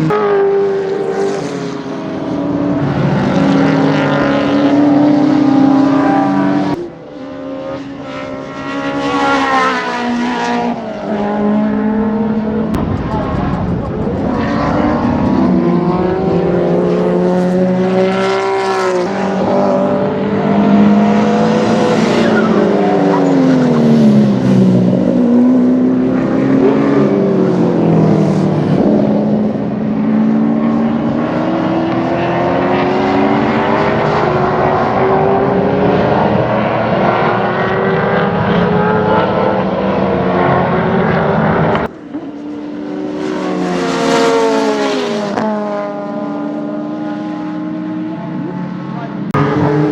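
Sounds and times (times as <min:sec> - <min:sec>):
racing car engines revving: 0:00.0 - 0:49.9.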